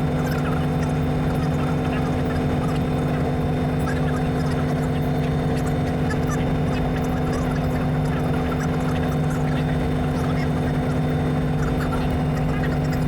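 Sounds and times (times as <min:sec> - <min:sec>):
helicopter engine and rotor running: 0:00.0 - 0:13.0.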